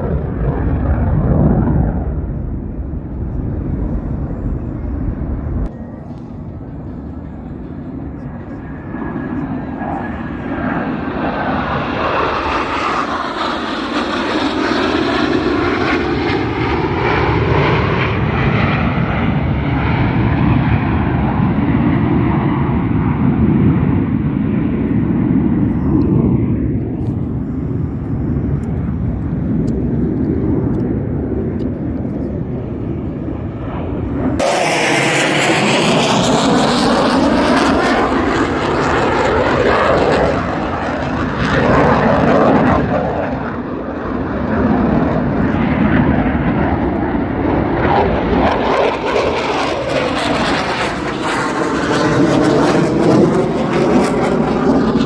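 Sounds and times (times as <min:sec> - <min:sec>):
jet aircraft roaring past: 0:00.0 - 0:55.0.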